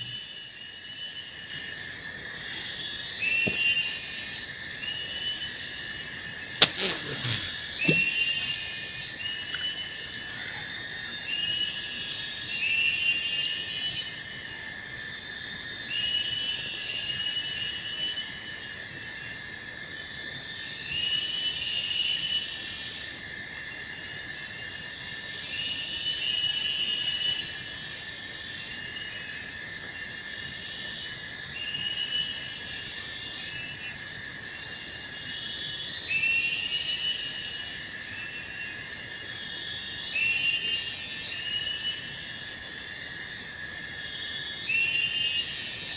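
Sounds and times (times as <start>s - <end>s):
insects and frogs chorus: 0.0s - 45.9s.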